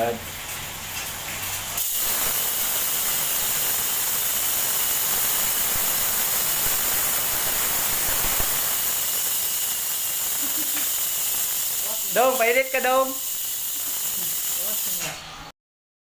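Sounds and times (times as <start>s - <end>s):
bicycle hub freewheeling buzz: 1.8s - 15.2s.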